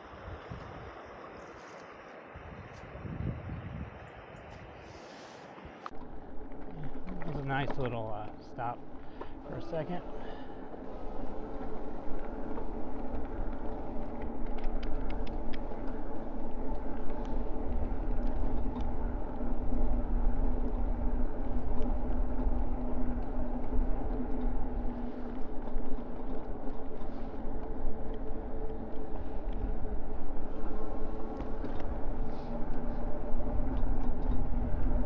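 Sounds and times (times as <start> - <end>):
e-bike riding rumble: 0.0 - 35.0.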